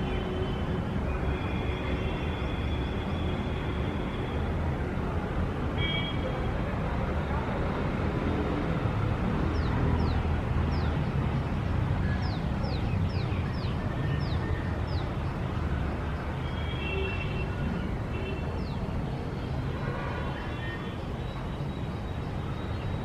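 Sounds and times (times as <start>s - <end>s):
low rumble of city traffic: 0.0s - 23.0s.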